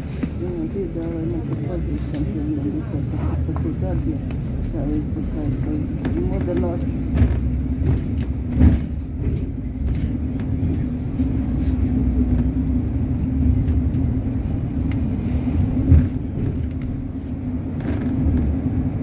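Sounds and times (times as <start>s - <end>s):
bus engine and tyres rumbling: 0.0s - 19.0s.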